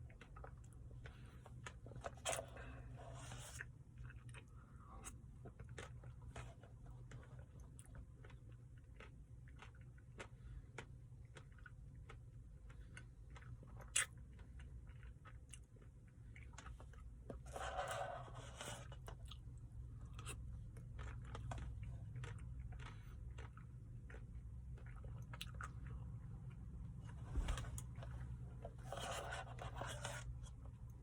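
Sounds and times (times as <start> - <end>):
chewing ice cream: 0.0 - 27.2
steady low hum: 0.0 - 31.0.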